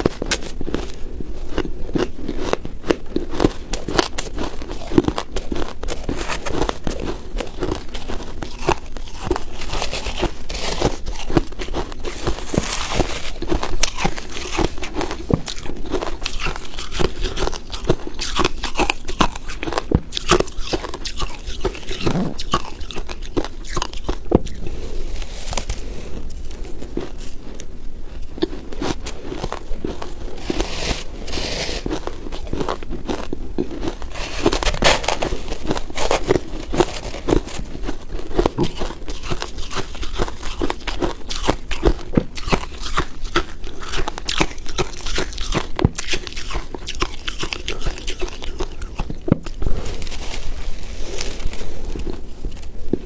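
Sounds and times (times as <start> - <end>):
chewing ice: 0.0 - 53.0.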